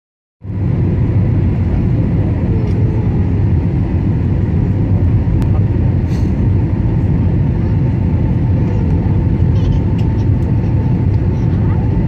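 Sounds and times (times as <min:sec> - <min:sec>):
jet airliner cabin rumble: 0:00.4 - 0:12.0.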